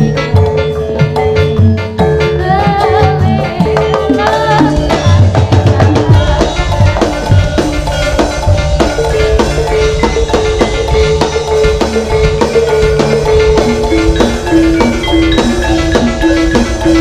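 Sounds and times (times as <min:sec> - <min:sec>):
drums beating densely: 0:00.0 - 0:17.0
held pitched tone: 0:00.0 - 0:17.0
wavering sliding melody: 0:00.0 - 0:17.0.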